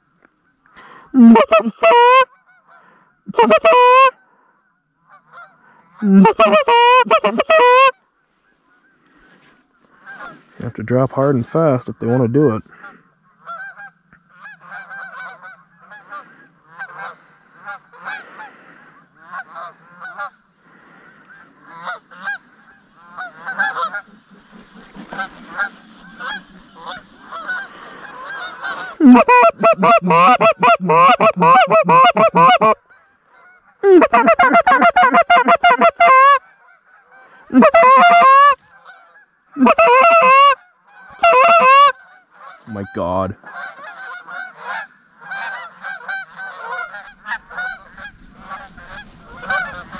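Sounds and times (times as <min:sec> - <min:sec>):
close goose honks and clucks: 0:00.0 - 0:49.9
distant geese honking: 0:00.0 - 0:49.9.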